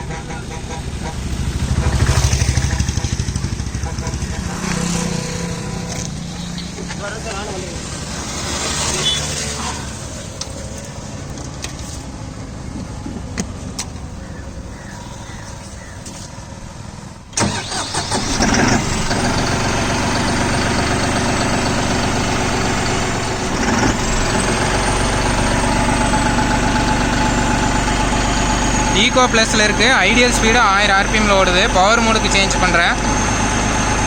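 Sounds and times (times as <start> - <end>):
tractor diesel engine idling: 0.0 - 8.2, 9.0 - 34.0
quieter engine-like running sound: 0.0 - 34.0.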